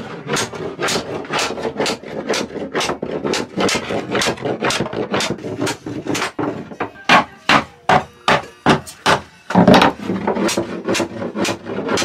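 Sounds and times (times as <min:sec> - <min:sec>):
rough rhythmic scraping: 0:00.0 - 0:07.5, 0:08.4 - 0:12.0.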